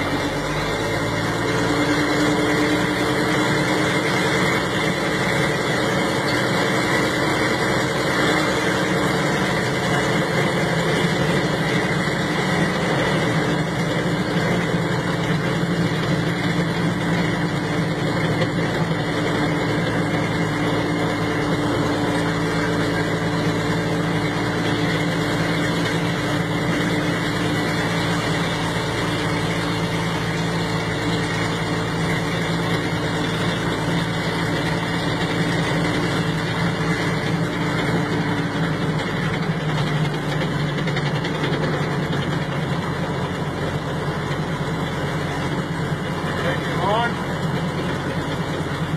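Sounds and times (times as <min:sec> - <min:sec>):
tractor engine drone: 0:00.0 - 0:48.9.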